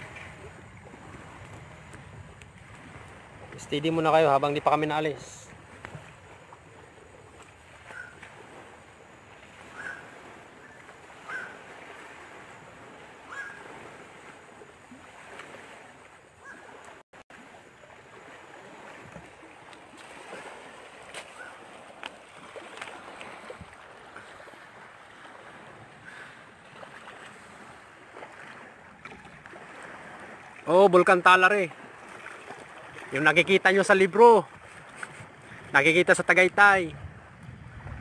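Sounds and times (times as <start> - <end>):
lake waves: 0.0 - 38.0
wind: 0.0 - 38.0.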